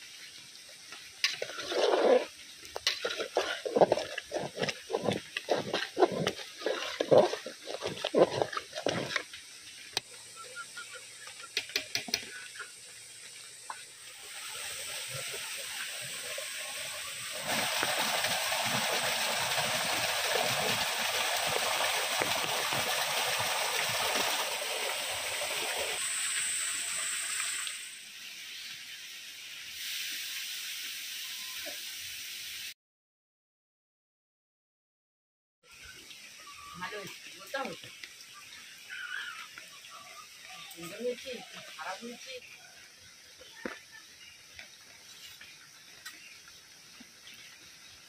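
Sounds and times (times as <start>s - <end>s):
rain and flowing water: 0.0s - 32.7s, 35.6s - 48.0s.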